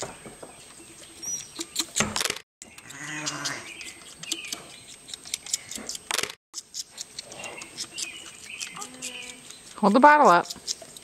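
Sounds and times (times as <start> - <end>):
sharp clicks and rustles: 1.4 - 11.0.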